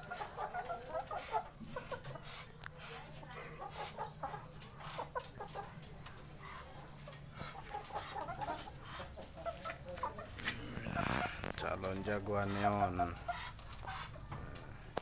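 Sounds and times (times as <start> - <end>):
chickens clucking: 0.0 - 15.0
faint low hum: 0.0 - 15.0.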